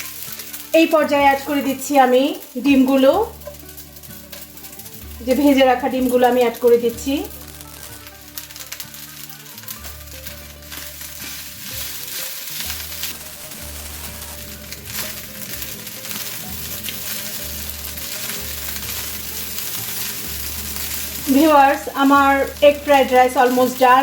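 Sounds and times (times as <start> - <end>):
rice sizzling in a pan: 0.0 - 24.0.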